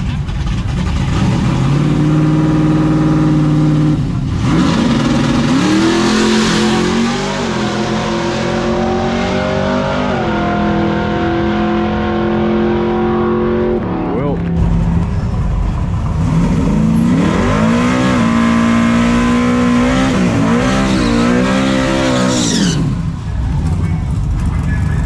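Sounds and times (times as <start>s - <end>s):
truck engine revving high: 0.0s - 25.0s.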